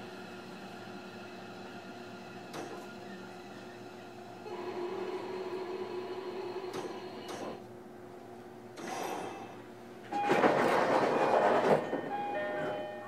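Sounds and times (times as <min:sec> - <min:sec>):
electrical hum of train equipment: 0:00.0 - 0:13.0.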